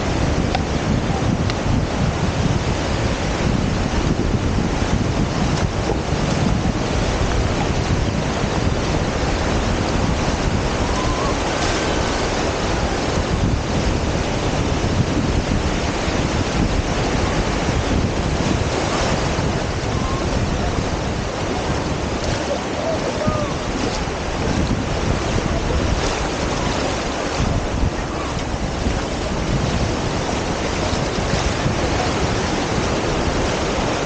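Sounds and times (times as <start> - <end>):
surf washing up the shore: 0.0 - 34.0
wind buffeting the microphone: 0.0 - 34.0.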